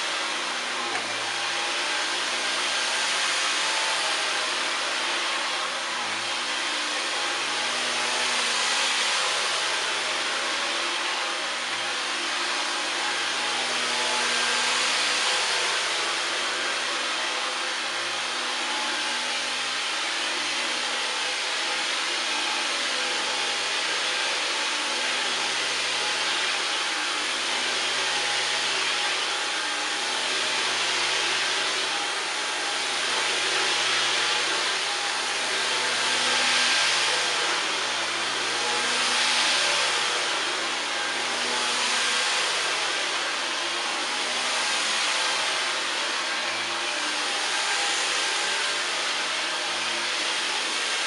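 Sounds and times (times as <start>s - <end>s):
vacuum cleaner motor whine: 0.0s - 51.0s.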